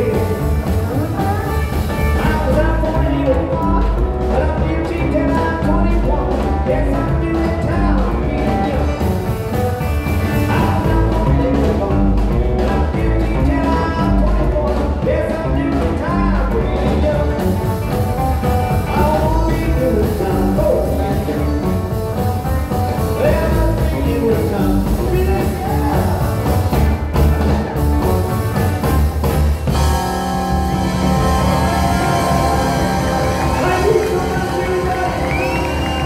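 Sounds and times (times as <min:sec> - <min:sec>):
male lead vocal: 0:00.0 - 0:09.3, 0:10.3 - 0:17.9, 0:18.6 - 0:21.9, 0:23.0 - 0:26.8, 0:30.8 - 0:36.0
drums: 0:00.0 - 0:36.0
electric guitar: 0:00.0 - 0:36.0
upright double bass: 0:00.0 - 0:36.0.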